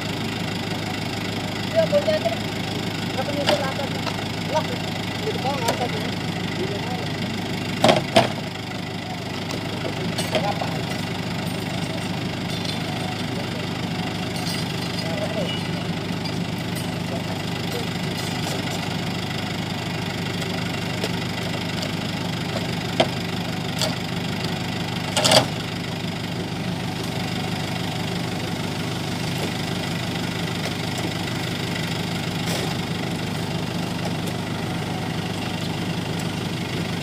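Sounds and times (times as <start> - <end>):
lorry engine idling: 0.0 - 37.0.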